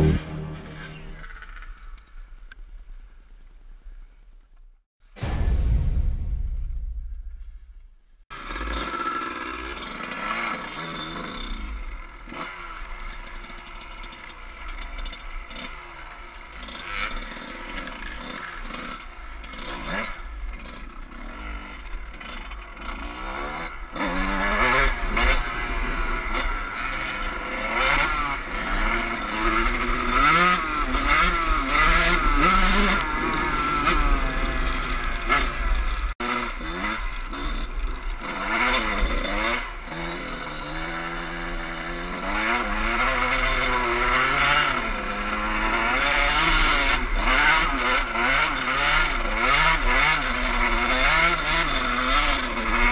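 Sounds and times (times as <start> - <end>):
dirt bike engine revving: 0.0 - 1.4, 8.4 - 52.9.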